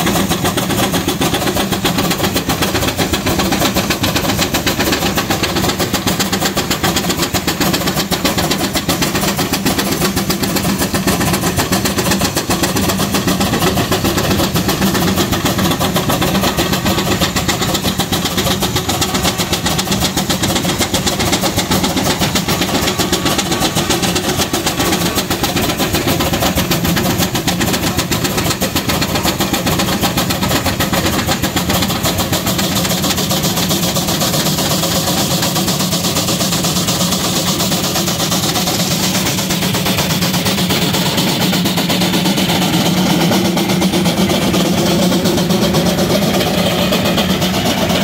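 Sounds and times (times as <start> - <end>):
steam engine exhaust chuffing: 0.0 - 48.0.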